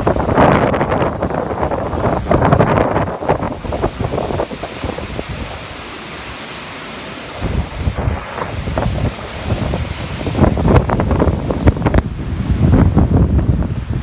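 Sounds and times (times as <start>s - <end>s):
wind gusting on microphone: 0.0s - 14.0s.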